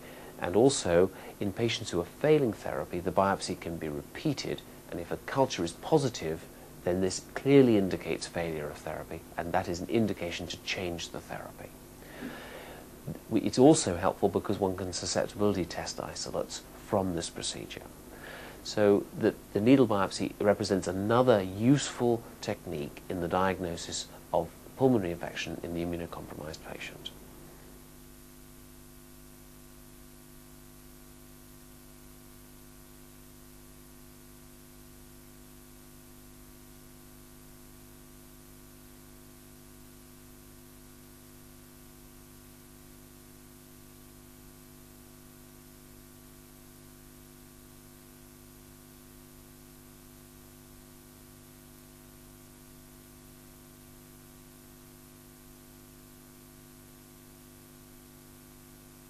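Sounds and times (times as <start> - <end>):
constant hiss: 0.0 - 59.0
mains hum: 0.0 - 59.0.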